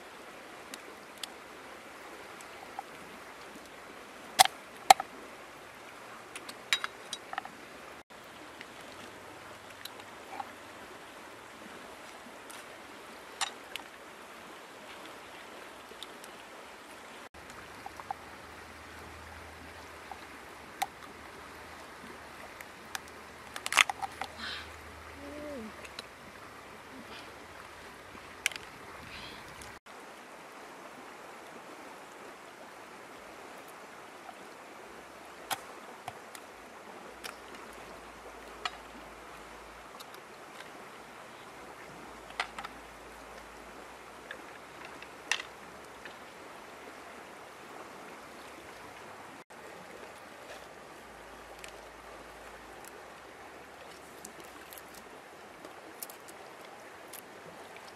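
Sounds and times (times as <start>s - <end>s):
stream water running: 0.0s - 57.9s.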